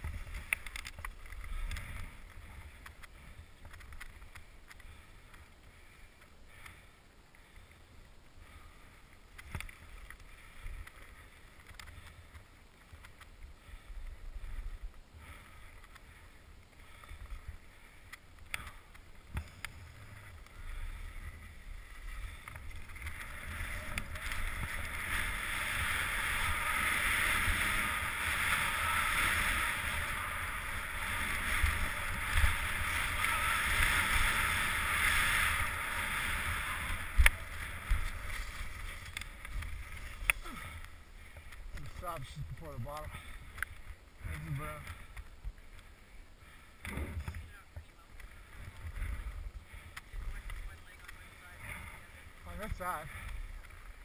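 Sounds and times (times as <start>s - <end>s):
skis scraping over packed snow: 0.0s - 54.0s.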